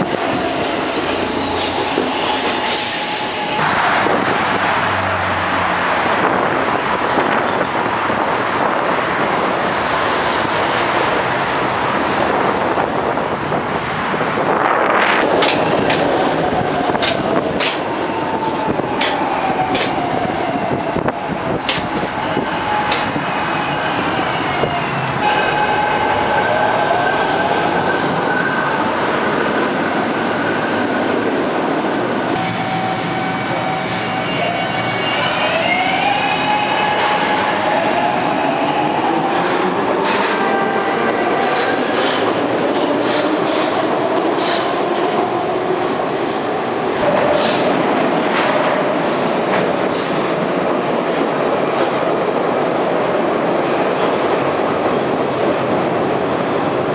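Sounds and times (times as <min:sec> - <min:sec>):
rumble of wheels on rail: 0:00.0 - 0:56.9.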